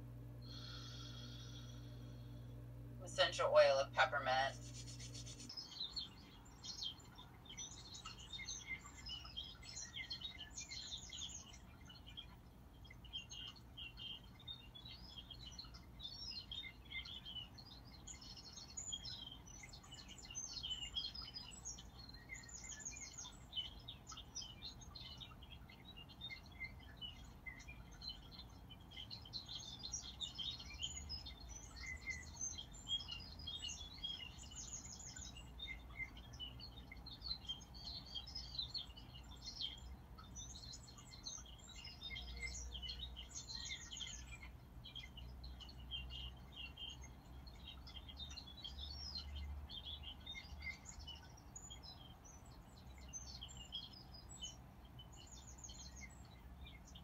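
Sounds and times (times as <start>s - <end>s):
faint low hum: 0.0s - 48.7s
birds chirping and trilling: 0.0s - 57.0s.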